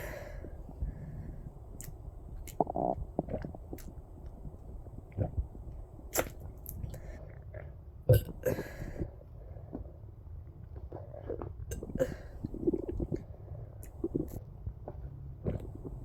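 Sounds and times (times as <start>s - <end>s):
person gulping water: 0.0s - 9.1s, 10.8s - 14.4s, 15.4s - 16.0s.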